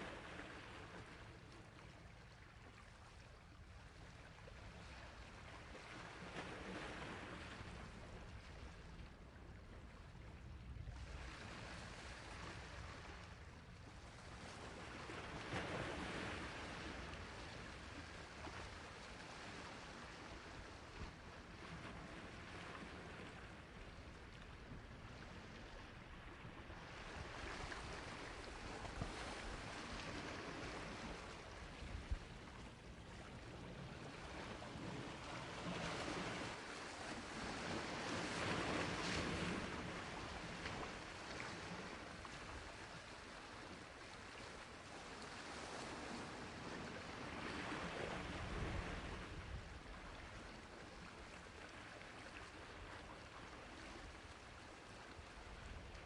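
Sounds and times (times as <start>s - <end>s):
sea waves washing ashore: 10.7s - 56.0s.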